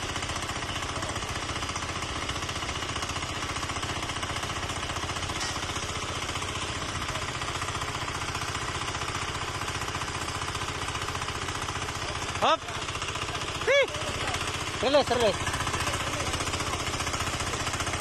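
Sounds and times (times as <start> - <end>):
small engine chugging: 0.0 - 18.0.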